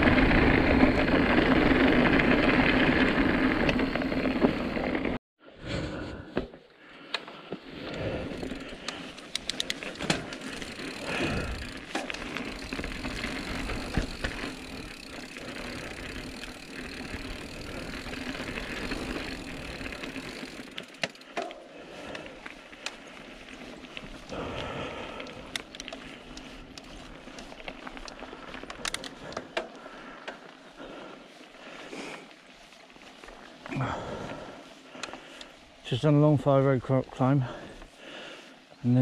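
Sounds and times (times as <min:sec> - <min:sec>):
bike clicks and rattles: 0:00.0 - 0:05.2, 0:06.3 - 0:36.2
bike tyre riding noise: 0:00.0 - 0:39.0.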